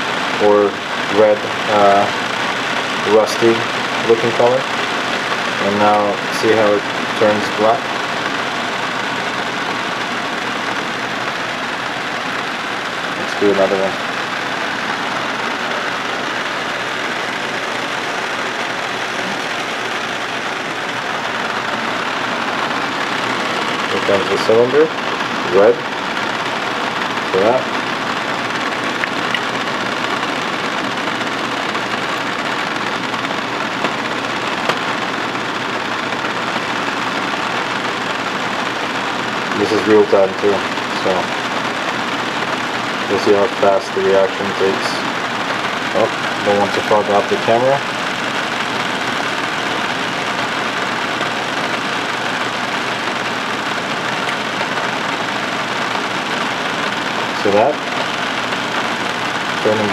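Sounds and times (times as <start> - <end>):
water boiling and bubbling: 0.0 - 59.9.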